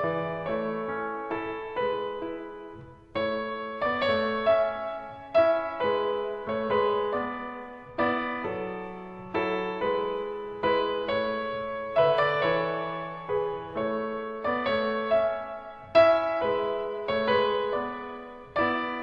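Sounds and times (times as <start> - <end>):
slow piano chords and melody: 0.0 - 19.0.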